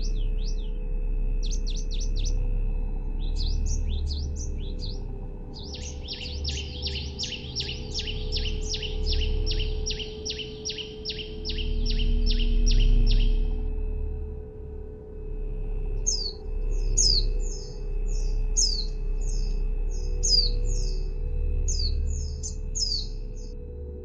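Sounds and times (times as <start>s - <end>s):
songbird singing: 0.0s - 13.8s, 15.9s - 23.6s
low drone and hum: 0.0s - 24.0s.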